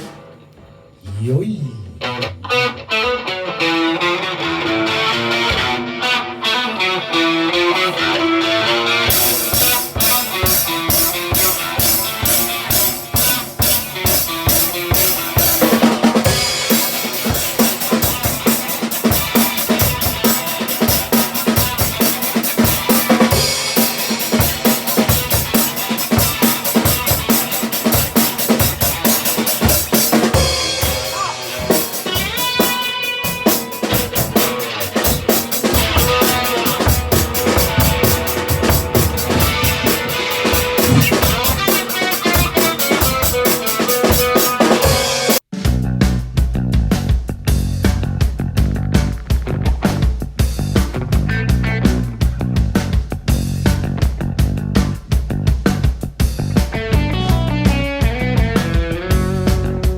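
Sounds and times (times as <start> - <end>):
punk rock band playing: 2.0 - 59.9
fast drum beat: 9.1 - 57.6.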